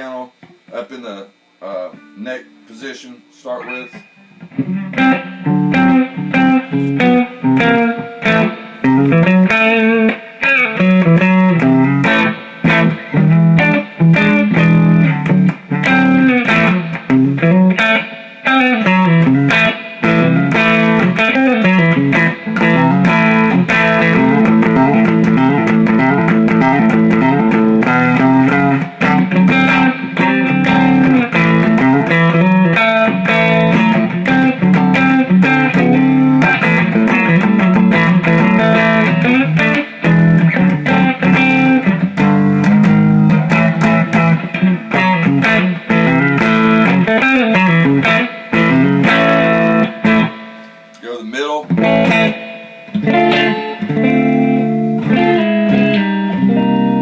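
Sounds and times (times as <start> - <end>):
clean electric guitar playing: 1.6 - 57.0.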